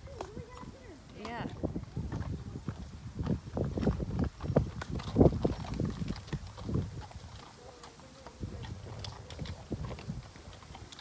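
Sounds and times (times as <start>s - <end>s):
horse hooves thudding on grass: 0.0s - 11.0s.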